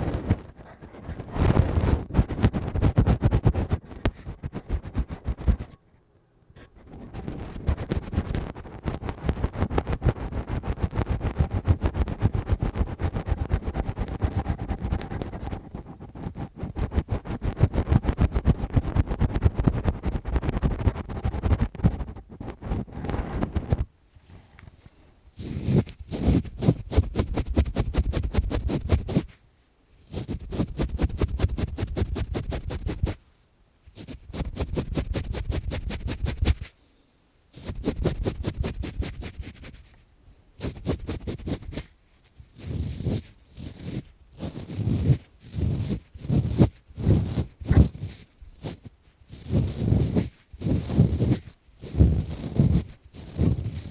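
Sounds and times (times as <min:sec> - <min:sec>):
scratching on a microphone: 0:00.0 - 0:05.8, 0:06.6 - 0:29.4, 0:30.0 - 0:33.2, 0:33.8 - 0:36.8, 0:37.5 - 0:40.0, 0:40.6 - 0:53.9.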